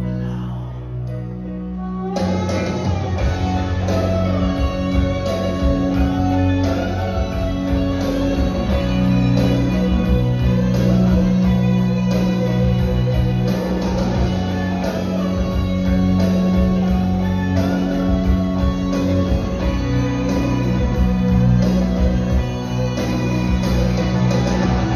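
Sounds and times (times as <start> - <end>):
guitar music with bass line: 0.0 - 24.9.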